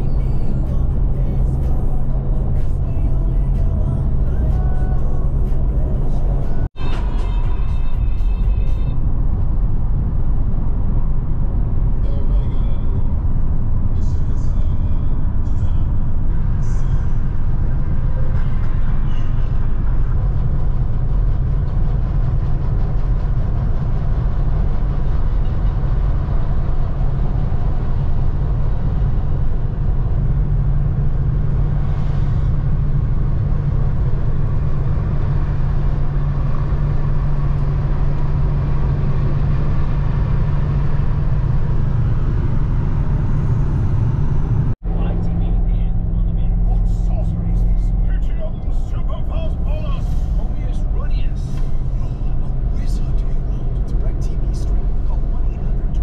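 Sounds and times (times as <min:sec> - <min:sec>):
vehicle engine and road rumble: 0:00.0 - 0:56.0.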